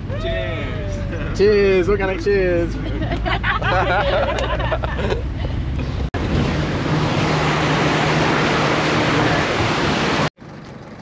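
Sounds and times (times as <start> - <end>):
car engine hum: 0.0 - 11.0
wind and road noise: 0.0 - 11.0.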